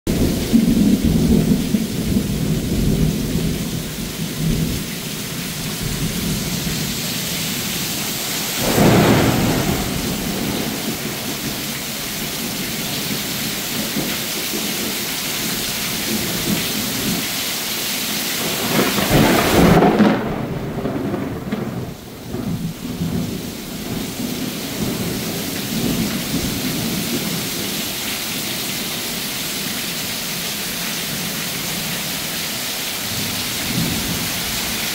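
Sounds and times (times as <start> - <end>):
thunder rumbling: 0.1 - 17.2, 18.4 - 28.0, 33.1 - 34.9
heavy rain pouring: 0.1 - 34.9
water sheeting off roof: 0.1 - 34.9.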